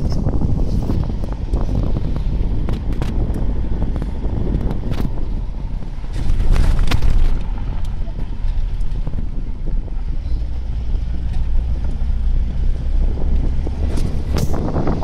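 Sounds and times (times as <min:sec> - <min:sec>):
car rumbling on gravel: 0:00.0 - 0:15.0
wind buffeting microphone: 0:00.0 - 0:15.0.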